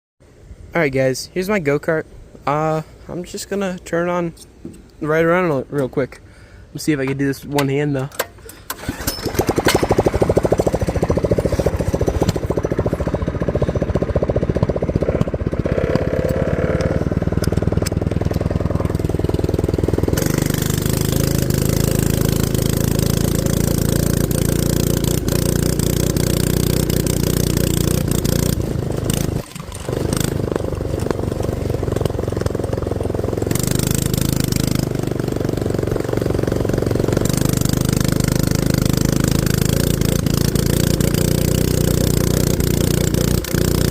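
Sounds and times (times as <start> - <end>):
go-kart engine running: 8.6 - 43.9.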